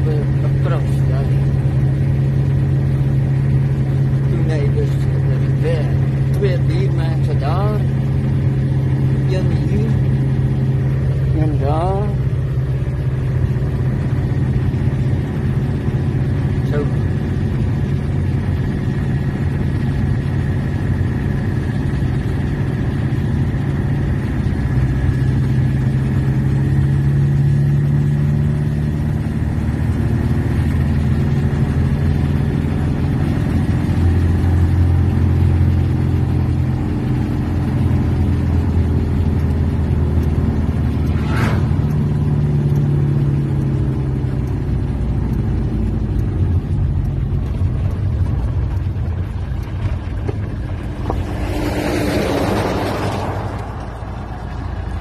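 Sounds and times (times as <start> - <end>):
diesel engine running: 0.0 - 55.0
tyre and road noise: 0.0 - 55.0.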